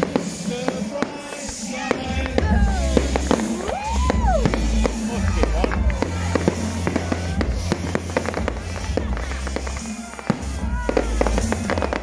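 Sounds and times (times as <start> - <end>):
background music: 0.0 - 12.0
fireworks bangs and crackles: 0.0 - 12.0.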